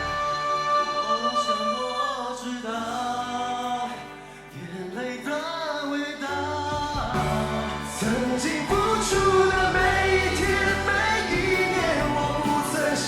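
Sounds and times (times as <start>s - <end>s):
live pop ballad singing: 0.0s - 13.0s.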